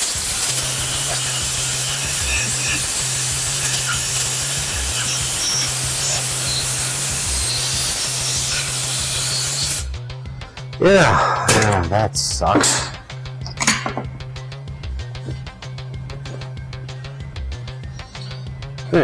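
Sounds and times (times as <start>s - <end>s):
air blowgun hissing: 0.0s - 18.9s.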